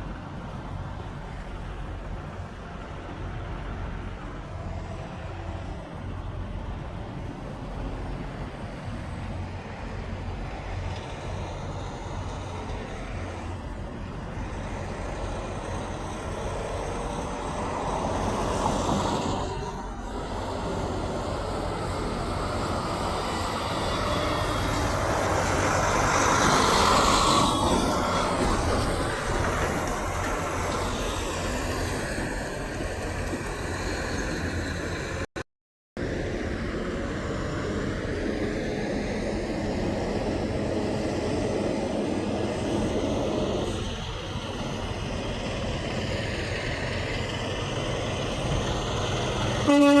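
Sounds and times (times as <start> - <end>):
trucks and cars driving past: 0.0 - 35.4, 36.0 - 50.0.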